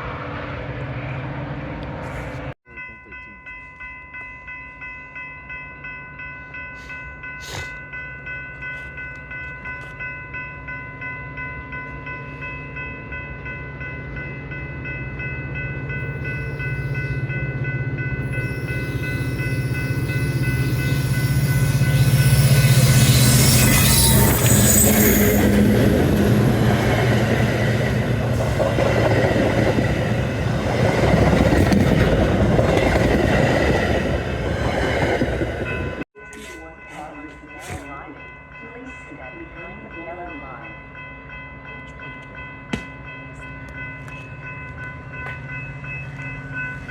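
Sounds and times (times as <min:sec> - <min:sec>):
train rumble and wheel noise: 0:00.0 - 0:46.9
railroad crossing bell ringing: 0:02.6 - 0:46.9.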